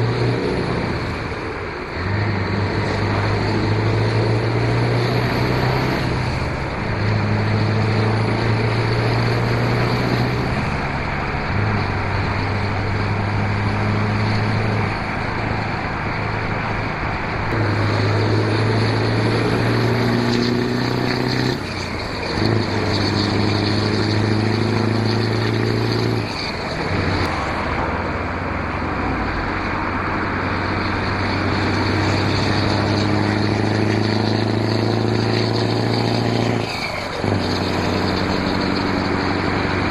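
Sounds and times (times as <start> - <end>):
diesel truck engine droning: 0.0 - 39.9
road and wind noise: 0.0 - 39.9.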